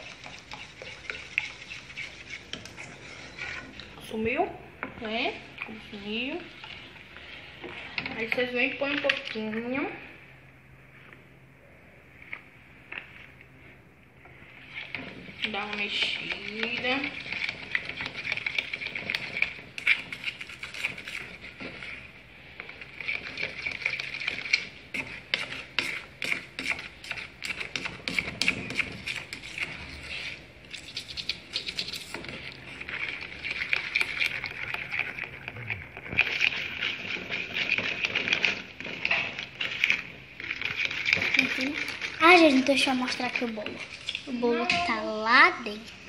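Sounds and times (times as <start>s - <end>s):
spatula scraping a pan: 0.0s - 9.4s, 13.0s - 45.1s.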